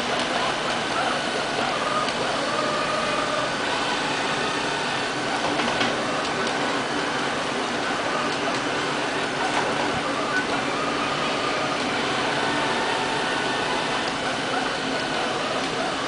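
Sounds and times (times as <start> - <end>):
robotic vacuum cleaner whirring: 0.1 - 16.0.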